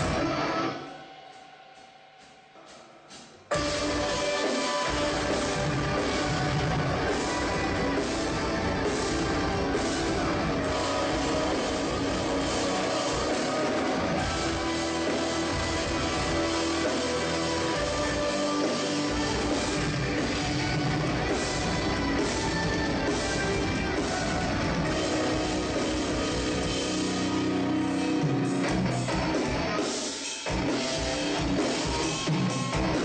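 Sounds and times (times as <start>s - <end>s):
metal band playing: 0.0s - 33.0s.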